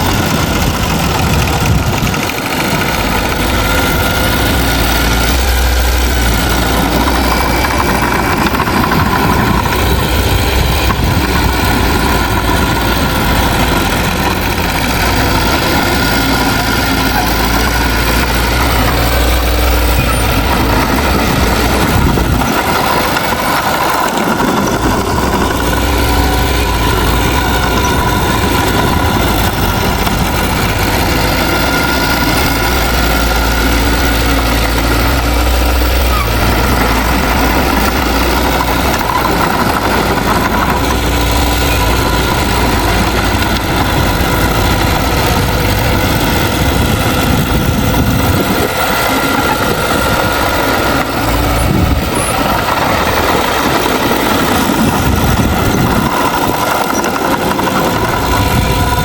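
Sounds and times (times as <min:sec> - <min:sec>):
diesel engine of heavy machinery: 0:00.0 - 0:59.0.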